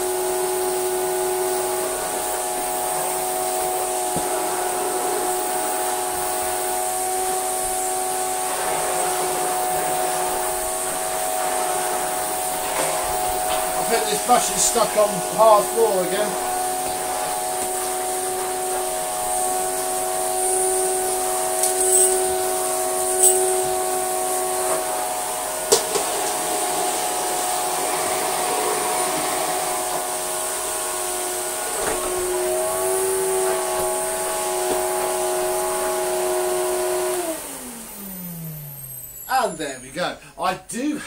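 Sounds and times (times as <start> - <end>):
vacuum cleaner motor whining: 0.0 - 40.2.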